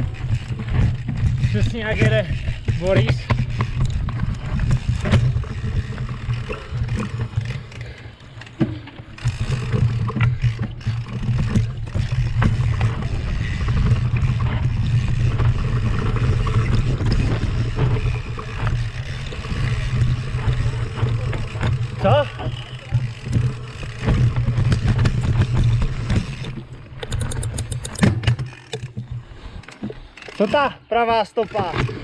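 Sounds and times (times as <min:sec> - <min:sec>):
bike rattling and knocking: 0:00.0 - 0:32.0
bike rumbling on rough trail: 0:00.0 - 0:32.0.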